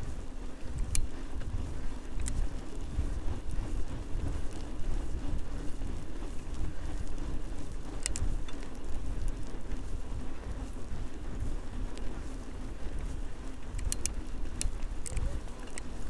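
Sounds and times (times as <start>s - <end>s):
bike tyres rolling over snow: 0.0s - 16.0s
wind buffeting microphone: 0.0s - 16.0s.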